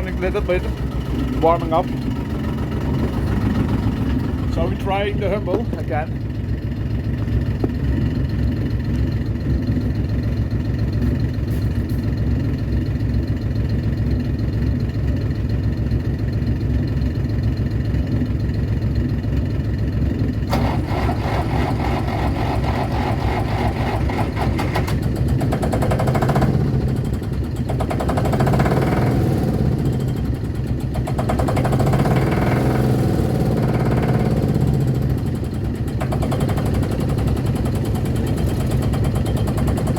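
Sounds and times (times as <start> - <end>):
diesel engine idling: 0.0 - 39.9
second diesel engine knocking: 0.0 - 39.9.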